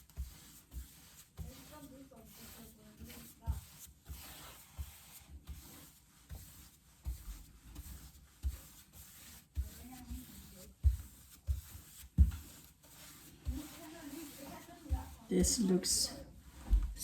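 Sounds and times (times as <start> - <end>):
cloth rubbing wood: 0.0 - 17.0.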